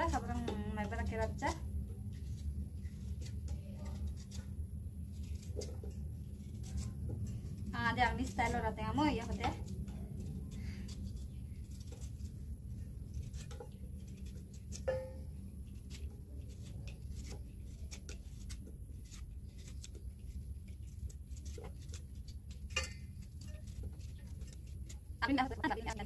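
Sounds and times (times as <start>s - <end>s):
knife cutting bamboo shoot: 0.0s - 26.0s
low steady background hum: 0.0s - 26.0s.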